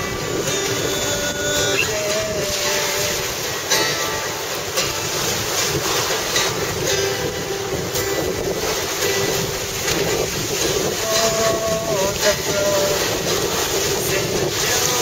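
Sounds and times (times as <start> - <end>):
faint plucked string notes: 0.0 - 15.0
waves breaking on shore: 0.0 - 15.0
wind buffeting microphone: 0.0 - 15.0.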